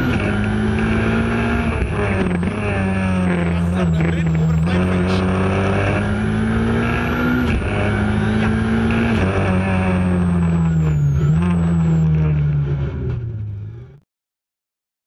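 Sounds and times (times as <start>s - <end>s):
car engine heard from inside: 0.0s - 14.0s.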